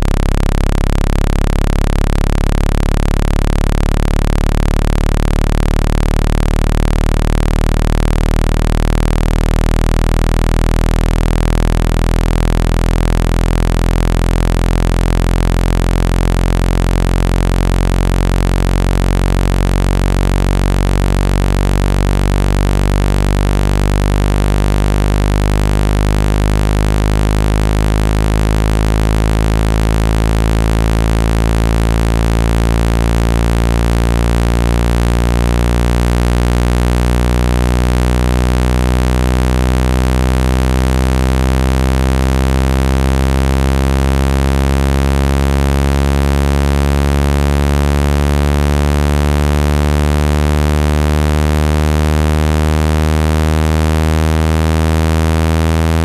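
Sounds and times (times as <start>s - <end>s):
synthetic low buzzing tone: 0.0s - 56.0s.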